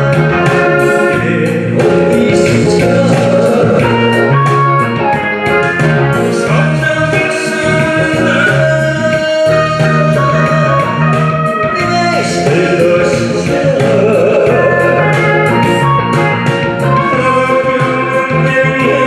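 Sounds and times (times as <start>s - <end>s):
instrumental accompaniment: 0.0s - 19.0s
person singing live: 0.0s - 19.0s.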